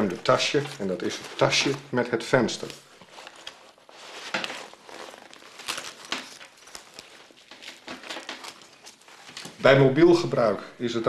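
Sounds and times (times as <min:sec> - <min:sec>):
bag rustling and crinkling: 0:00.0 - 0:10.4.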